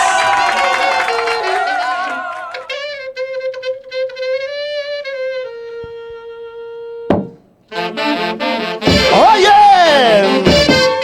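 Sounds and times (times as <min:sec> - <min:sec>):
wind instrument holding note: 0:00.0 - 0:07.1, 0:07.7 - 0:11.0.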